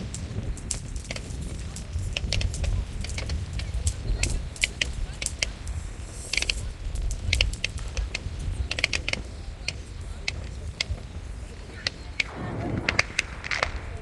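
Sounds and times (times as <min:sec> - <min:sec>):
fireworks cracking and banging: 0:00.0 - 0:14.0
steady low rumble: 0:00.0 - 0:14.0.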